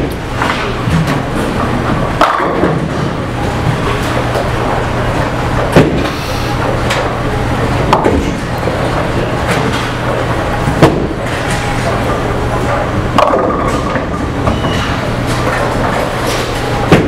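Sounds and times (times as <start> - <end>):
bowling balls rolling: 0.0 - 17.0.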